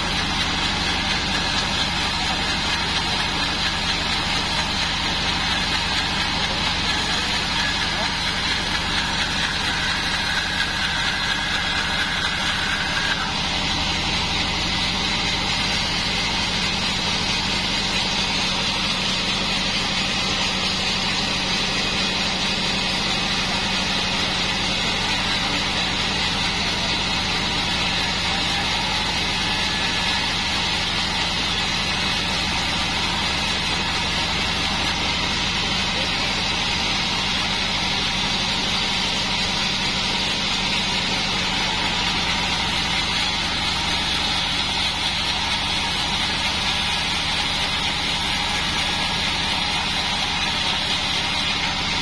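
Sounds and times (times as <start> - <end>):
bandsaw mill humming: 0.0 - 52.0
saw blade whine cutting wood: 0.0 - 52.0.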